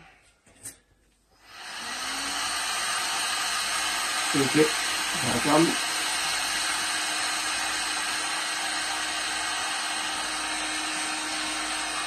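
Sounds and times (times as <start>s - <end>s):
heat gun blowing air: 1.4s - 12.0s.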